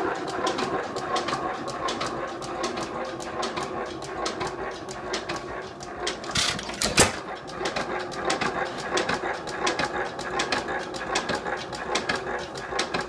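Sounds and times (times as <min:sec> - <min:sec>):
stationary engine clattering: 0:00.0 - 0:13.0.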